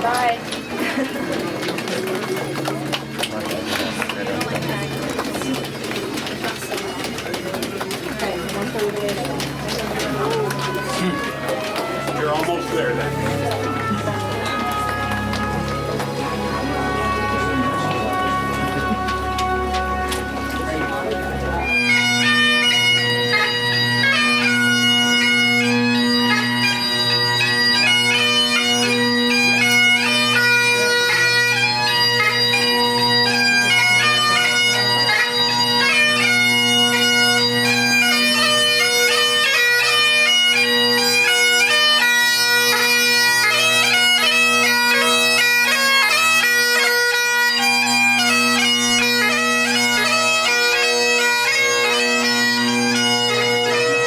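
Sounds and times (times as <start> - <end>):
bagpipes playing melody: 0.0 - 54.0.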